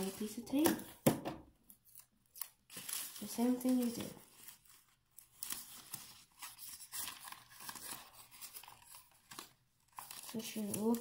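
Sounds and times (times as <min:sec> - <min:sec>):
paper rustling and crinkling: 0:00.0 - 0:00.6, 0:01.7 - 0:11.0.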